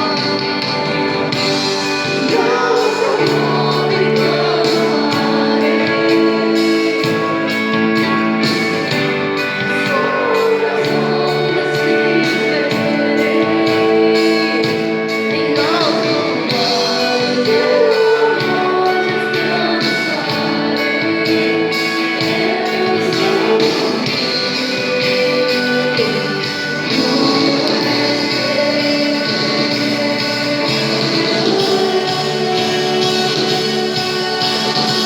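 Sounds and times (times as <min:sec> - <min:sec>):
band playing slow song: 0:00.0 - 0:35.0
person singing: 0:00.0 - 0:35.0.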